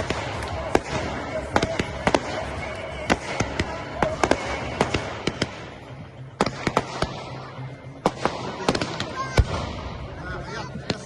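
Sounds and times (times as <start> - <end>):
fireworks bangs: 0.0 - 7.3, 8.0 - 10.0
fireworks crackling: 0.0 - 10.2.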